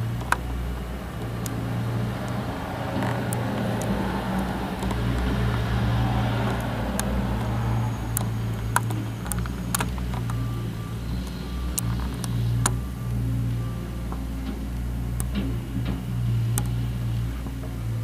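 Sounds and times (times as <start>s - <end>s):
skid steer engine running: 0.0s - 18.0s.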